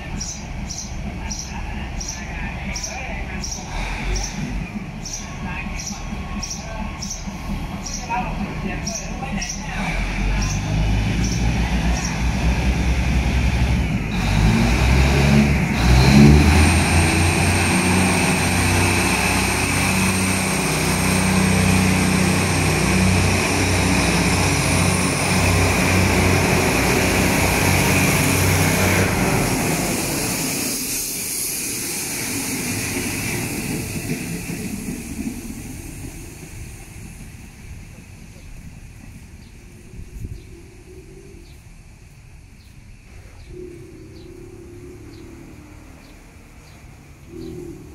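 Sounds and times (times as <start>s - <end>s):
diesel train engines revving: 0.0s - 47.9s.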